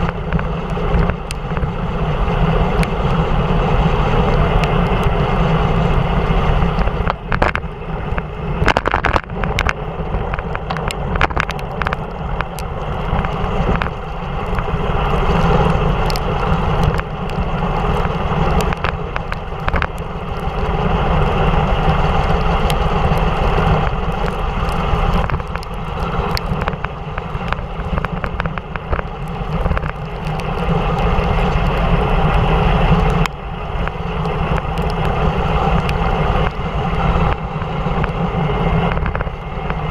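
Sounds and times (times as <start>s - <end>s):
tyre noise on wet road: 0.0s - 39.9s.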